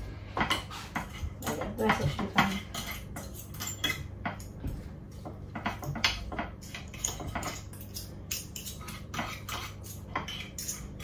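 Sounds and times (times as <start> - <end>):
cutlery scraping a plate: 0.3 - 11.0.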